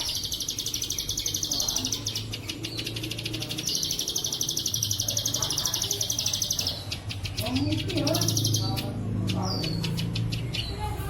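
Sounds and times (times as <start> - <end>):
bird singing high trill: 0.0 - 11.0.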